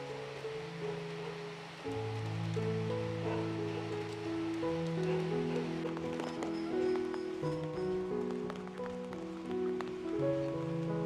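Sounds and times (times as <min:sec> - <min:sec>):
music of slow held notes: 0:00.0 - 0:11.0.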